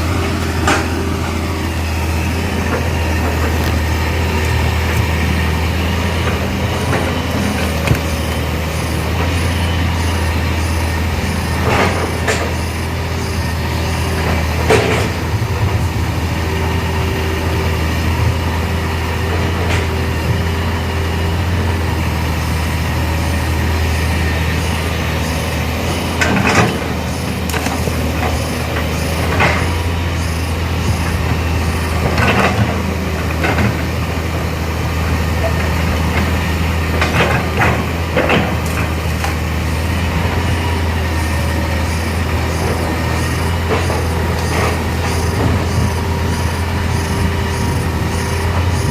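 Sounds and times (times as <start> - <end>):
diesel engine humming: 0.0 - 48.9
noisy clatter: 0.0 - 48.9.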